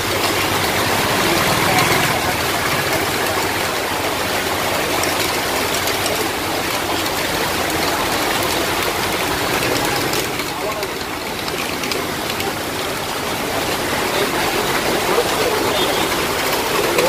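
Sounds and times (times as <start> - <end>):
heavy rain pouring: 0.0 - 17.0
runoff water flowing: 0.0 - 17.0.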